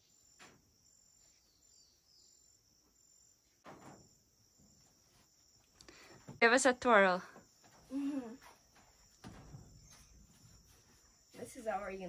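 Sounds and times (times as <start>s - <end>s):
insects chirring: 0.0s - 12.0s
pulsing insect trill: 0.0s - 12.0s.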